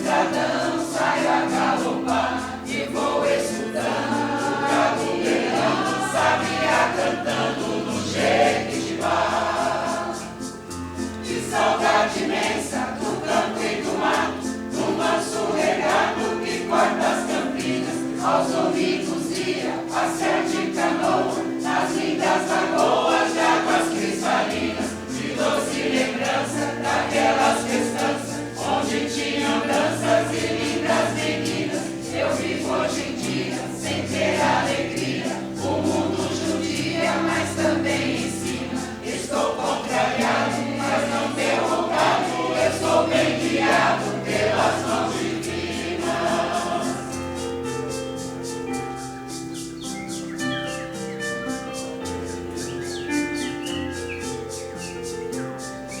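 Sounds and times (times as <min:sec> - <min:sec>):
mixed choir singing: 0:00.0 - 0:55.0
sustained keyboard accompaniment: 0:00.0 - 0:56.0.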